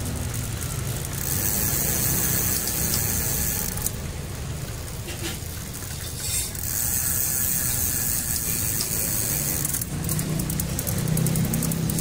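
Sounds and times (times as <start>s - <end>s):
bicycle chain spinning: 0.0s - 12.0s.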